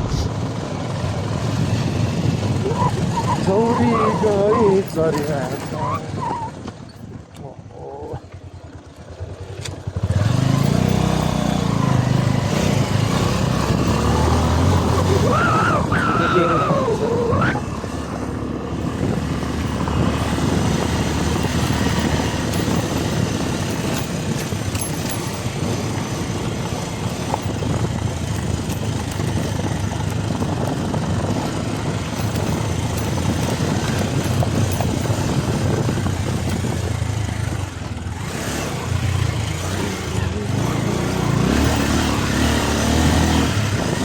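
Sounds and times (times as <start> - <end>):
vehicle engine running: 0.0 - 6.2, 7.7 - 44.0
road and wind noise hiss: 0.0 - 7.6, 8.4 - 44.0.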